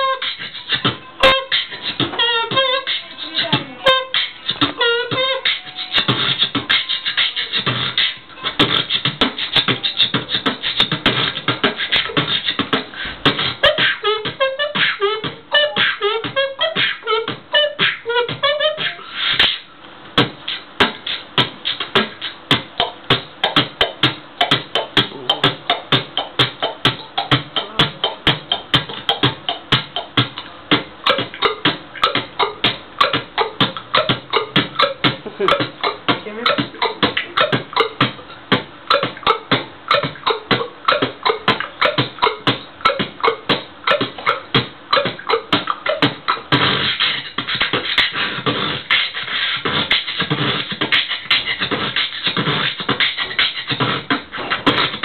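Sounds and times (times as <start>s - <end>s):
beatboxing into microphone: 0.0s - 55.0s.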